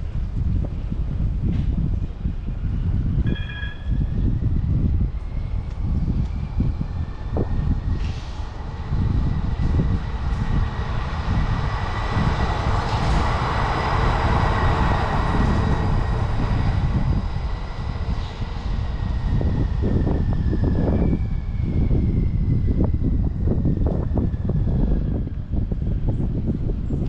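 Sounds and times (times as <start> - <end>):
road and traffic noise: 0.0 - 27.0
wind buffeting microphone: 0.0 - 27.0.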